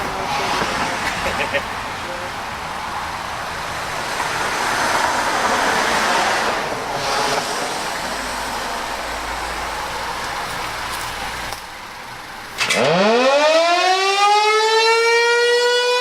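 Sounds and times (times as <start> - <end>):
vehicle tyre and road noise: 0.0 - 15.1
steady traffic hum: 0.0 - 16.0.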